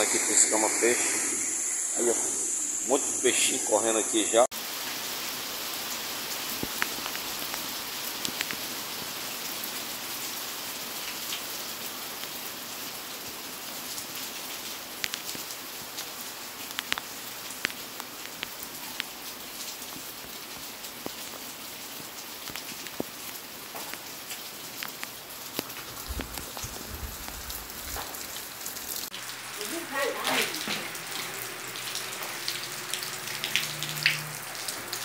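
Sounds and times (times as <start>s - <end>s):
rain falling on pond and grass: 4.5s - 35.0s.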